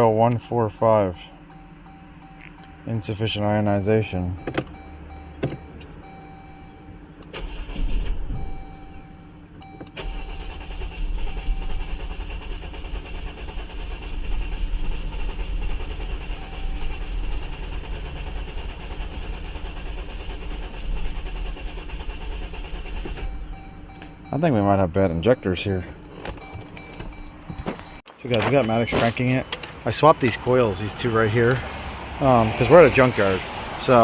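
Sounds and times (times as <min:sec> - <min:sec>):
engine cranking without starting: 0:01.1 - 0:31.7.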